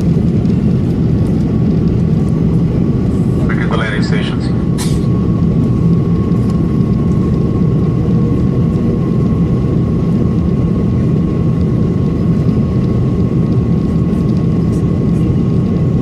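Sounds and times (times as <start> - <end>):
airliner cabin rumble: 0.0 - 16.0
thin steady whine: 0.0 - 16.0.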